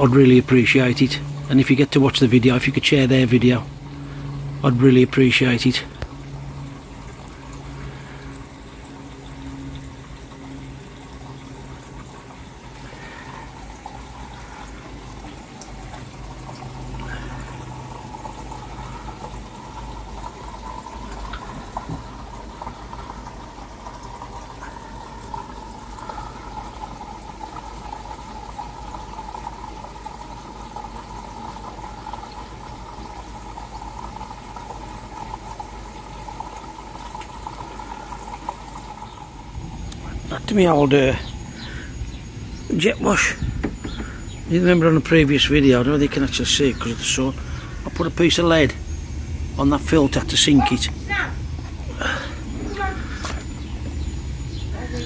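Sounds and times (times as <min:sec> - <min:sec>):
faint steady hum: 0:00.0 - 0:55.0
pond water splashing and bubbling: 0:00.0 - 0:55.0.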